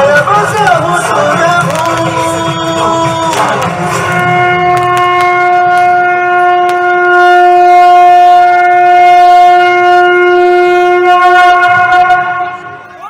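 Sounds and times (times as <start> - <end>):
conch shell blown: 1.8 - 13.0.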